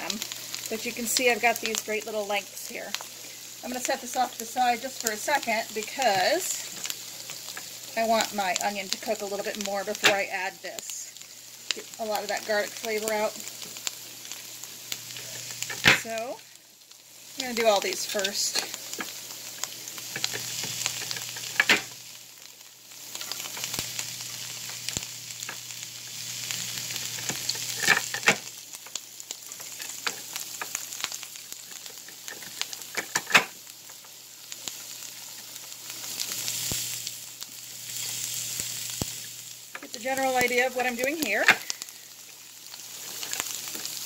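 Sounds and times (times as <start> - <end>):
onions sizzling in a pan: 0.0 - 44.0.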